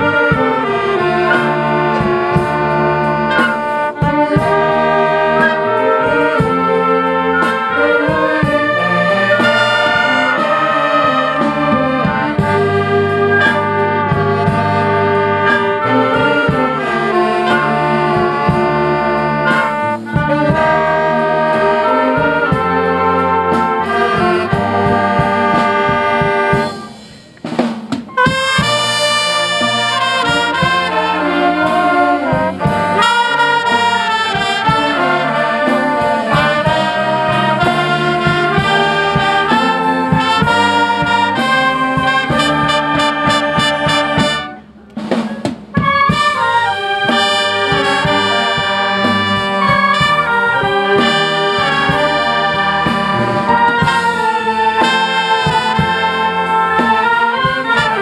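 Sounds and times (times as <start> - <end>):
steady drum beat: 0.0 - 58.0
wind band playing: 0.0 - 58.0.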